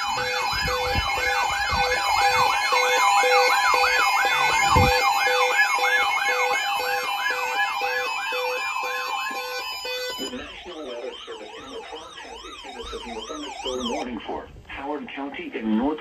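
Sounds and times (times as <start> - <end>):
electronic siren yelping: 0.0 - 14.2.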